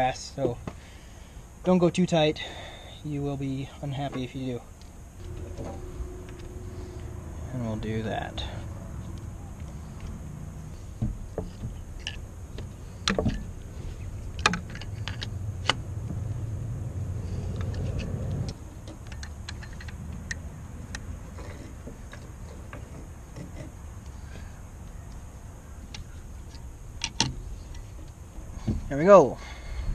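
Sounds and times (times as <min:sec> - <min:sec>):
low steady rumble: 0:00.0 - 0:29.9.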